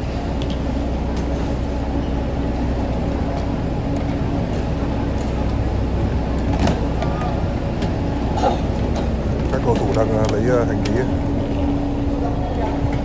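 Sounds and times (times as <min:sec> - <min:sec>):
coach engine idling: 0:00.0 - 0:13.0.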